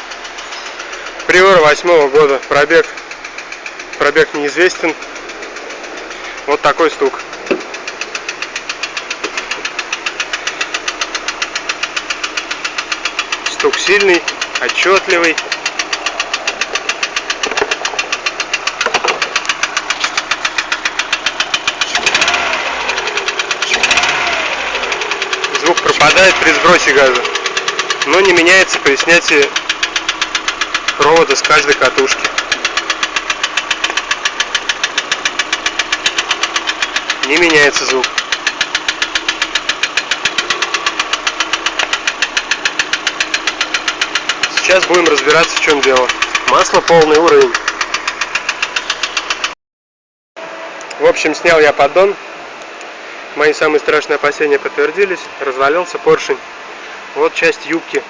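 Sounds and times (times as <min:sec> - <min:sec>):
car engine knocking: 0:00.0 - 0:49.6.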